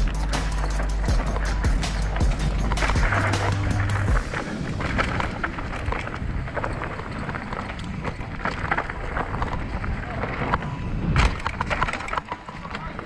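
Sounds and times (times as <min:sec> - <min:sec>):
bike rattling over bumps: 0:00.0 - 0:13.0
tyres crunching over gravel: 0:00.0 - 0:13.0.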